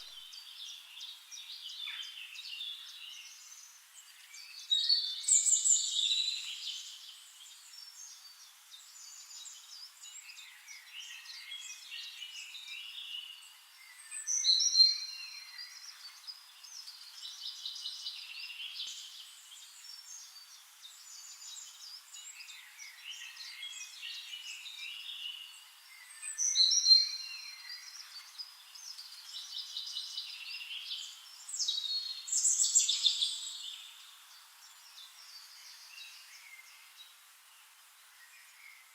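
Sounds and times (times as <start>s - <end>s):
nightingale singing: 0.0s - 37.0s.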